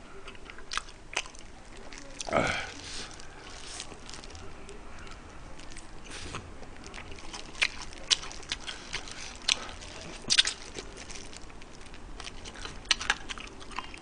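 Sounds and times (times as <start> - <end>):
chewing crunchy fried chicken: 0.2 - 14.0.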